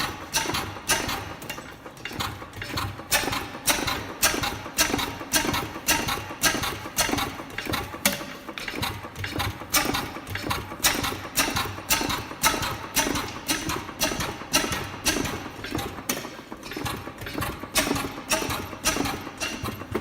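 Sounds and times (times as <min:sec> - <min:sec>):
old oil engine knocking: 0:00.0 - 0:20.0.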